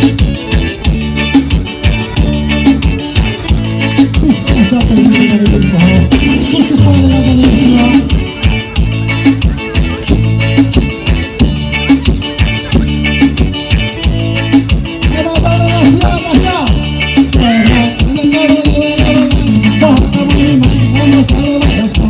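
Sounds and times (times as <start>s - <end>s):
live band playing dance music: 0.0s - 22.0s.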